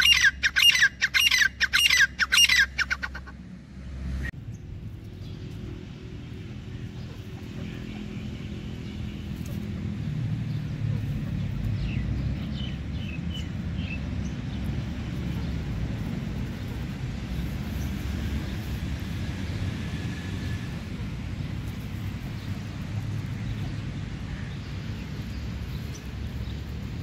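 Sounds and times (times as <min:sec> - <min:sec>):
distant vehicle engine rumble: 0:00.0 - 0:27.0.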